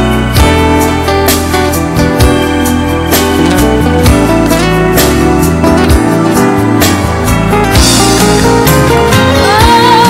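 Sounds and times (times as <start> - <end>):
song with guitar and steady beat: 0.0 - 10.0.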